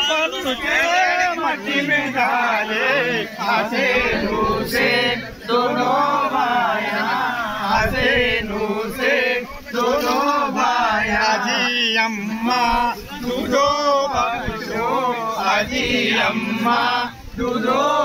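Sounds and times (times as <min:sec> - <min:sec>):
men chanting devotional song: 0:00.0 - 0:18.0.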